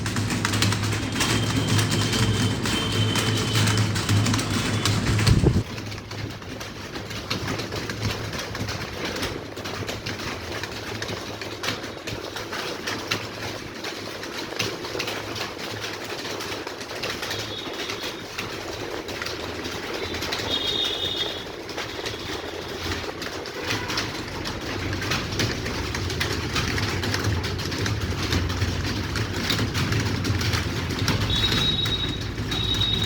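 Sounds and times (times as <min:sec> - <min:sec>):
keyboards clattering: 0:00.0 - 0:13.6, 0:16.4 - 0:33.0.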